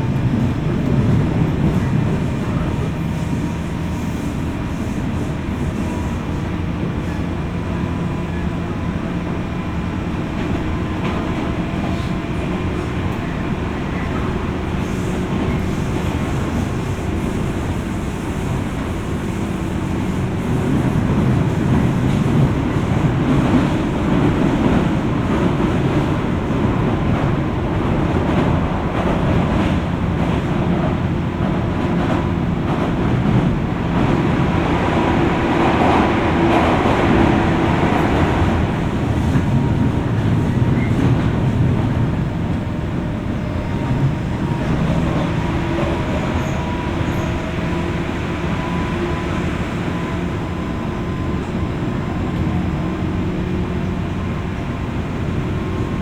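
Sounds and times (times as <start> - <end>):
train wheels and motors rumbling: 0.0 - 56.0.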